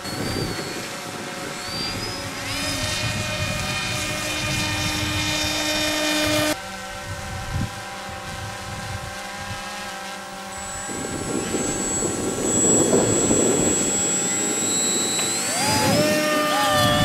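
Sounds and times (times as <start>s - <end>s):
model motor and propeller whine: 0.0s - 17.0s.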